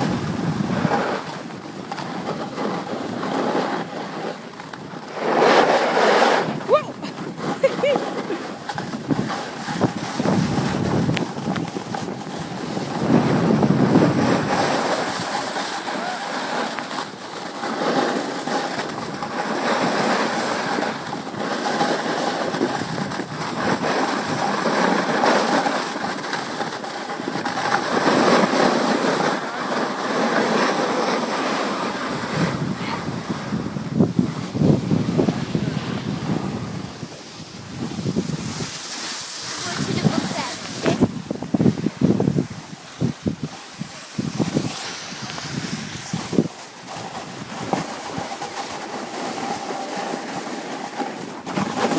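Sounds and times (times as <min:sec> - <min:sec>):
edges scraping over snow: 0:00.0 - 0:51.9
wind on microphone: 0:00.0 - 0:51.9.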